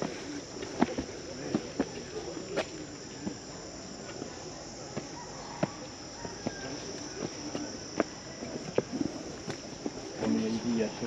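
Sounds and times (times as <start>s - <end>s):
insect chorus droning: 0.0s - 11.0s.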